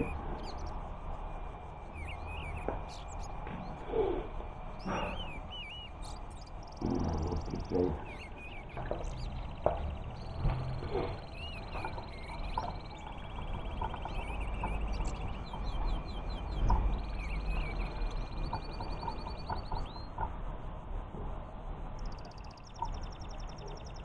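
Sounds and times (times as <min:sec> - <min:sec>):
small birds chirping and trilling: 0:00.0 - 0:24.0
steady low hum: 0:00.0 - 0:24.0.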